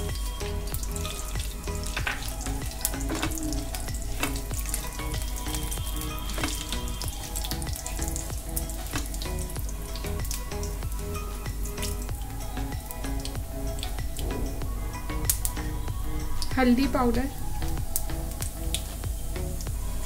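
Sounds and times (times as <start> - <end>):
soft background music: 0.0 - 20.0.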